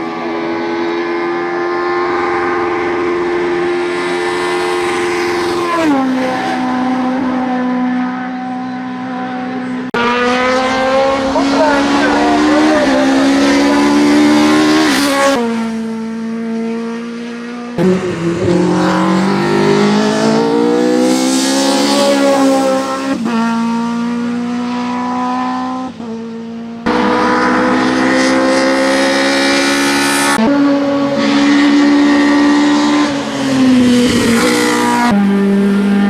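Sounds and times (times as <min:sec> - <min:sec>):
car engine revving hard: 0:00.0 - 0:36.0.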